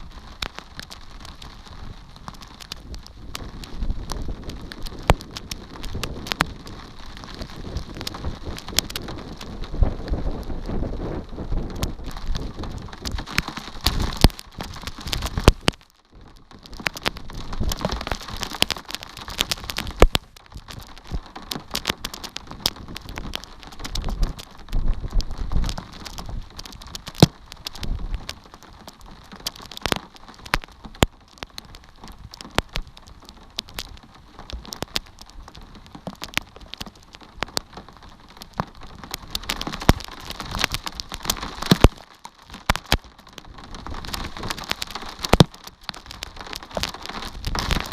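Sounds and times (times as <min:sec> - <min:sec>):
rain pattering: 0:00.0 - 0:47.9
raindrops ticking near microphone: 0:00.0 - 0:47.9.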